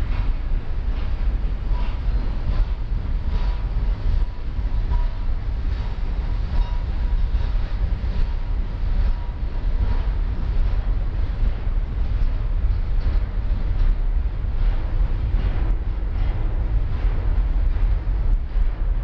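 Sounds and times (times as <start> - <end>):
train wheels rumbling on rail: 0.0 - 19.0
wheels clacking on rail joints: 0.0 - 19.0.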